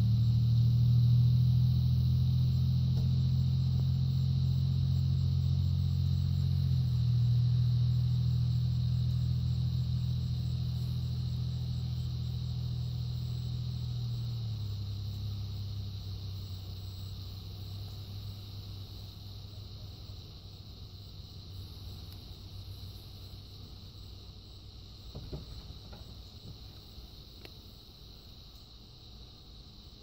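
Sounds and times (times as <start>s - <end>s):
low engine-like hum: 0.0s - 30.0s.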